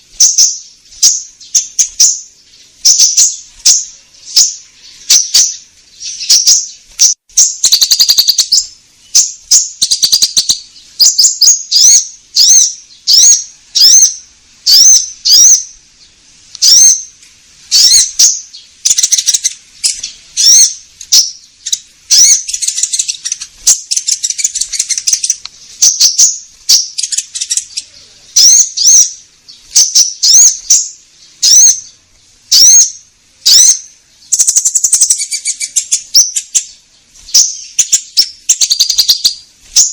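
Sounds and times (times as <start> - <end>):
bird chattering: 0.0 - 15.8, 16.6 - 17.1, 17.7 - 39.9
bird singing whistled notes: 0.0 - 39.9.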